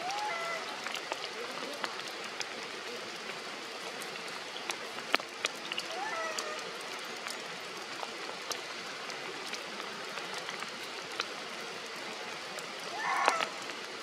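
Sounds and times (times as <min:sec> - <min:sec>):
rain falling through foliage: 0:00.0 - 0:14.0
sharp drips: 0:00.0 - 0:14.0.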